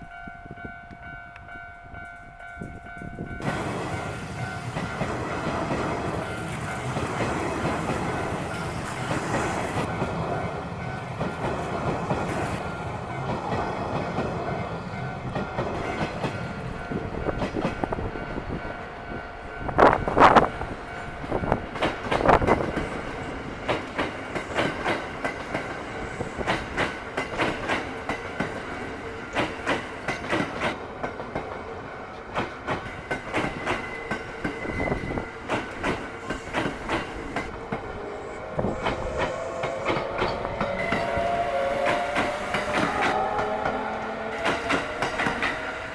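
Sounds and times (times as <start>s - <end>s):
train rumble: 0.0s - 45.9s
wheels clacking over rail joints: 2.2s - 45.9s.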